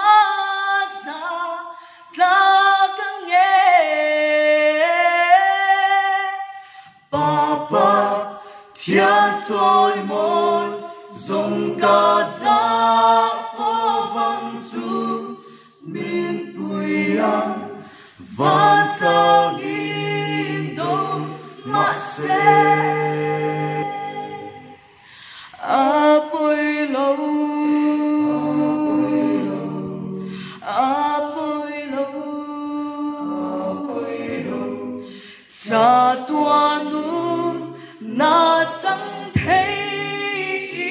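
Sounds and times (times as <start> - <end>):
a cappella group singing in harmony: 0.0 - 40.9.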